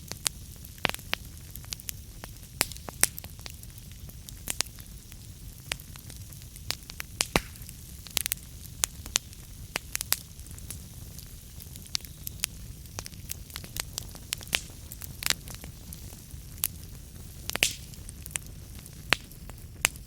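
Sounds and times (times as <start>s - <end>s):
burning logs crackling and popping: 0.0s - 20.0s
fire flames rumbling: 0.0s - 20.0s.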